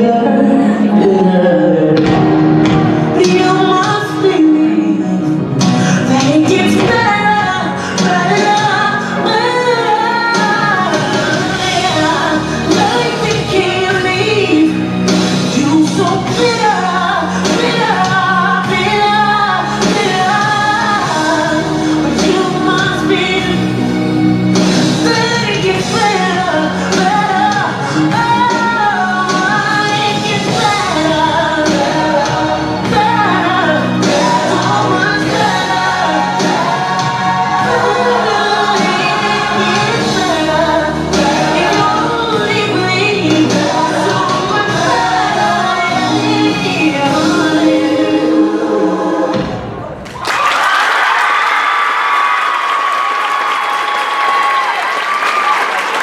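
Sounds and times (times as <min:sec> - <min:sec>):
woman singing pop song: 0:00.0 - 0:49.6.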